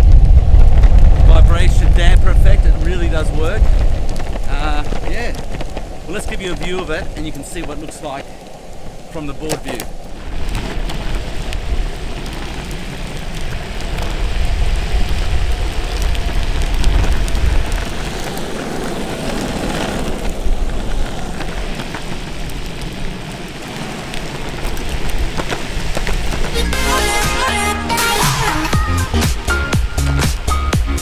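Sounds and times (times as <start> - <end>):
skateboard wheels rolling on asphalt: 0.0 - 31.0.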